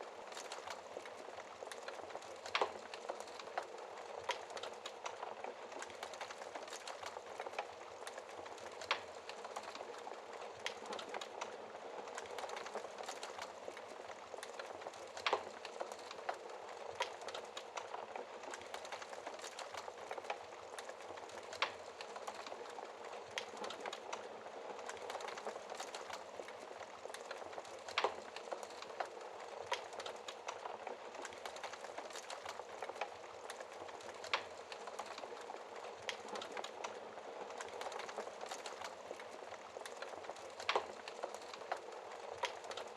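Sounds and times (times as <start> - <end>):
logs crackling in fireplace: 0.0 - 42.9.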